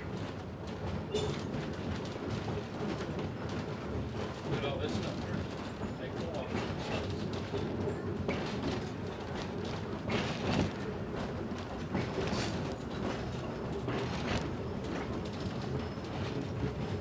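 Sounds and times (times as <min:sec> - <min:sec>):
trolley car rumbling: 0:00.0 - 0:17.0
wheels clacking over rails: 0:00.0 - 0:17.0.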